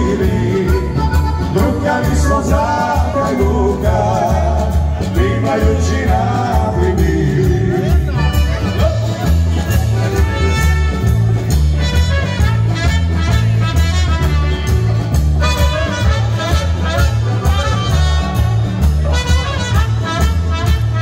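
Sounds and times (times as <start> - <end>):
drums beating: 0.0 - 21.0
pulsing bass line: 0.0 - 21.0.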